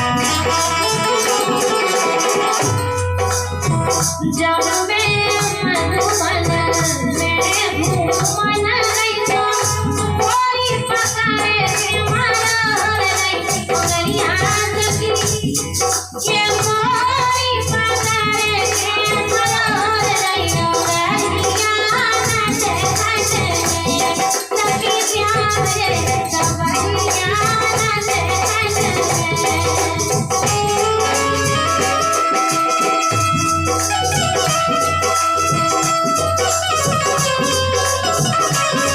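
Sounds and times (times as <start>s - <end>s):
rattling percussion beat: 0.0s - 38.9s
woman singing: 0.0s - 38.9s.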